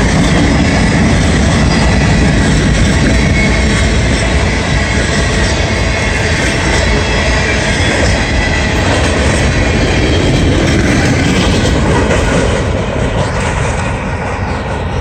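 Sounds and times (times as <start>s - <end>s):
freight cars rolling on rails: 0.0s - 15.0s.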